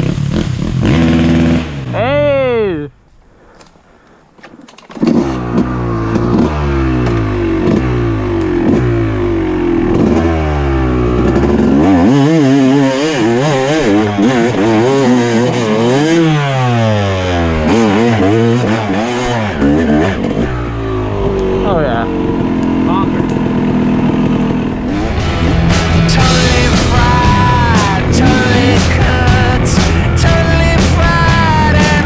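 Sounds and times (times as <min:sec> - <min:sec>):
dirt bike engine revving: 0:00.0 - 0:02.8, 0:04.8 - 0:32.0.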